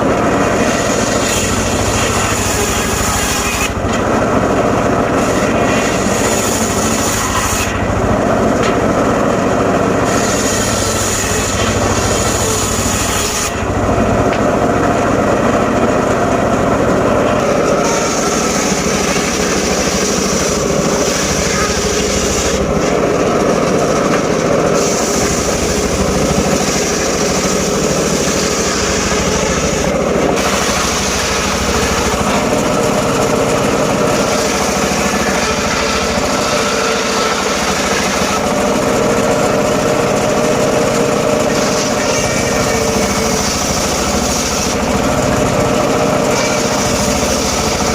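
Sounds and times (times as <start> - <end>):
engine-driven saw cutting wood: 0.0 - 47.9.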